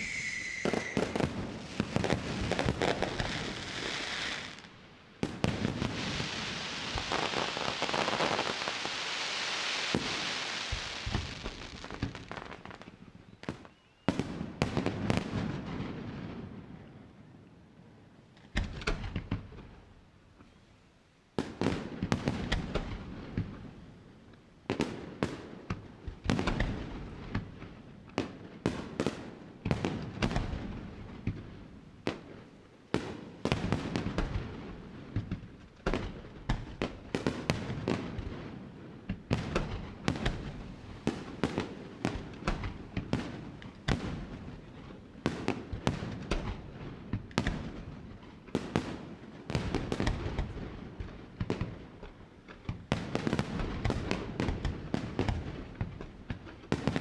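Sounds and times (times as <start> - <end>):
fireworks bangs and crackles: 0.0 - 17.0, 18.5 - 19.8, 21.4 - 23.9, 24.6 - 57.0.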